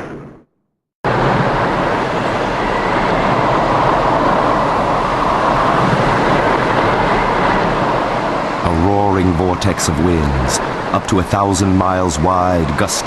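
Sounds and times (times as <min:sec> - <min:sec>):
wind: 0:01.0 - 0:13.0
driving rain: 0:01.1 - 0:13.0.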